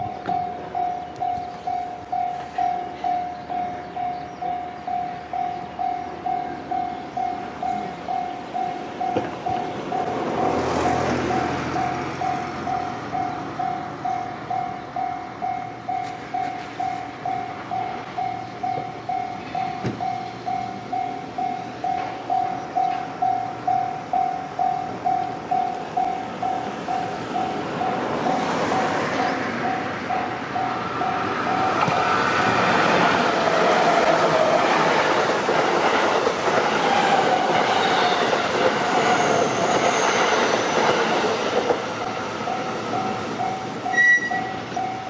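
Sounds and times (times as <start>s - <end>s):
train passing: 0.0s - 45.0s.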